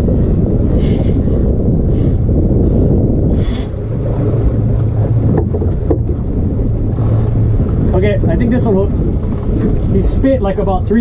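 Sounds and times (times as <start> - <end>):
outboard motor rumbling: 0.0 - 11.0
wind on microphone: 0.0 - 11.0.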